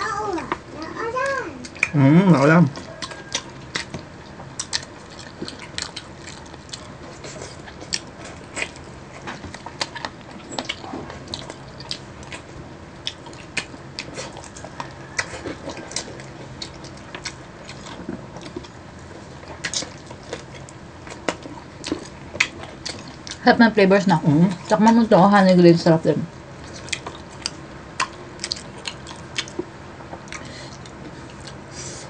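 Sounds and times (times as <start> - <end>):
crunching and chewing food: 0.0 - 23.5, 26.3 - 32.0.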